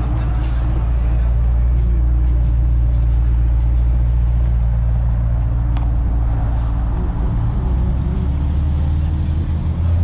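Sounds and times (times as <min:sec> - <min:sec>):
car exhaust drone: 0:00.0 - 0:10.0.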